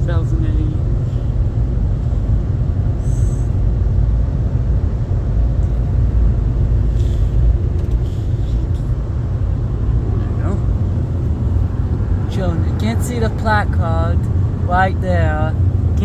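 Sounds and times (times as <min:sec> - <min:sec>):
car wash machinery rumbling: 0:00.0 - 0:16.0.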